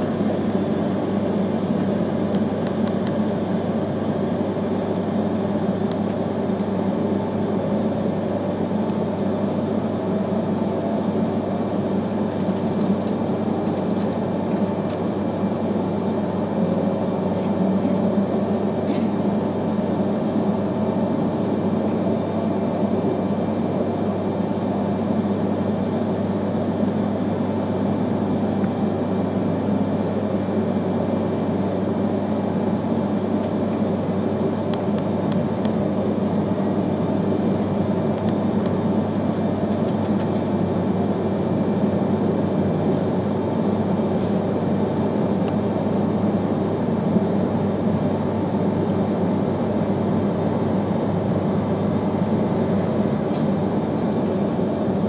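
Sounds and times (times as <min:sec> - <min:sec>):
train interior hum: 0:00.0 - 0:55.0
train wheels rumbling on track: 0:00.0 - 0:55.0.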